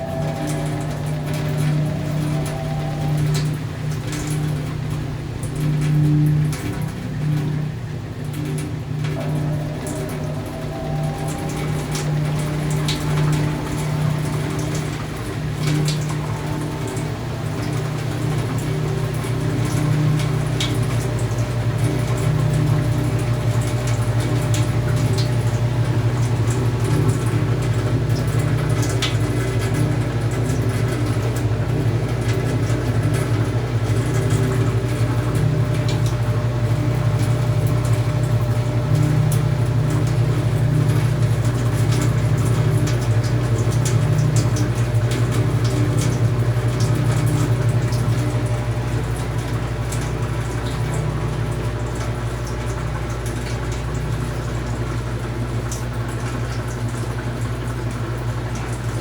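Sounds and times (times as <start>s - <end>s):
washing machine hum: 0.0s - 59.0s
water moving in washing machine: 0.0s - 59.0s.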